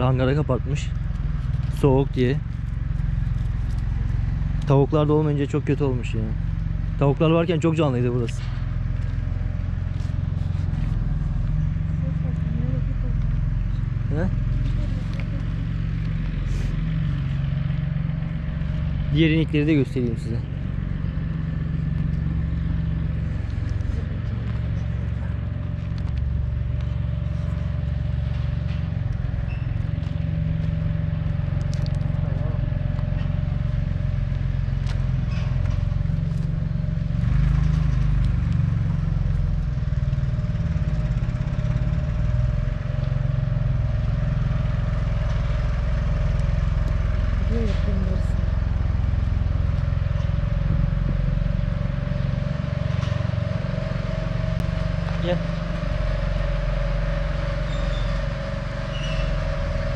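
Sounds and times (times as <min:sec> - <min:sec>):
machine droning: 0:00.0 - 0:59.9.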